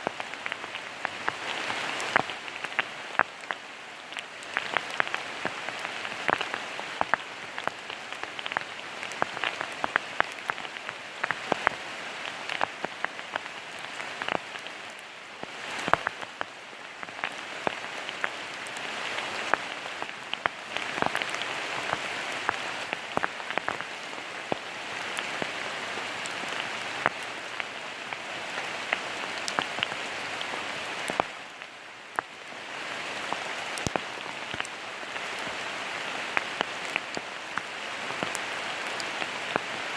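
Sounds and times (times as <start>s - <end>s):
rain falling: 0.0s - 39.9s
raindrops hitting close: 0.0s - 39.9s.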